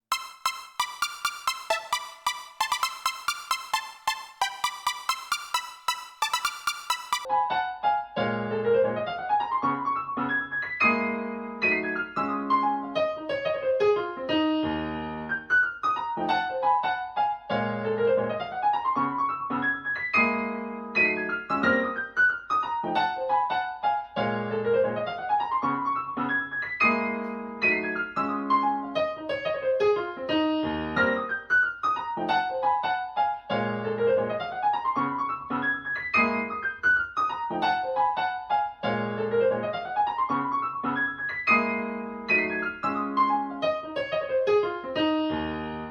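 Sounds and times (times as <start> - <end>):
solo piano music: 0.0 - 45.9.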